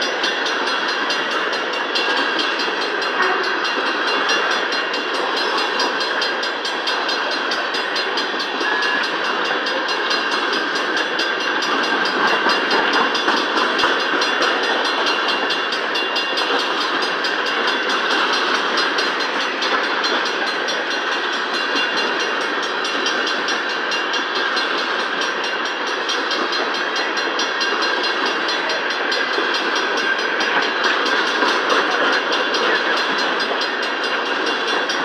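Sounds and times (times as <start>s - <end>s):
steel train wheels on rails: 0.0s - 35.0s.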